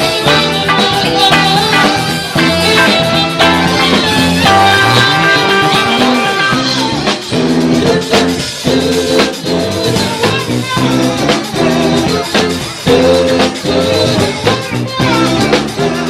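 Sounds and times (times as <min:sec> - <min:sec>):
live band playing music: 0:00.0 - 0:16.0.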